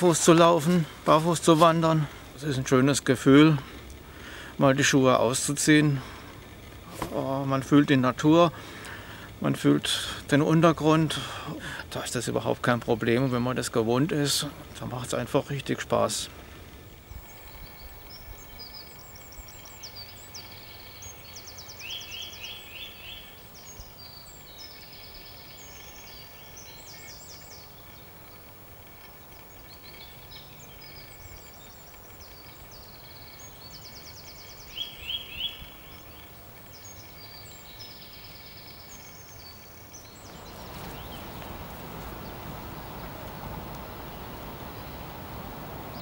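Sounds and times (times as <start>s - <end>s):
faint hiss: 0.0s - 46.0s
songbirds chirping and trilling: 0.0s - 46.0s.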